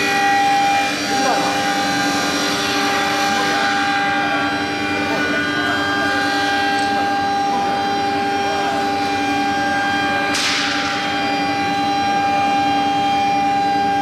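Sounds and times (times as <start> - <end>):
router spindle high whine: 0.0 - 14.0.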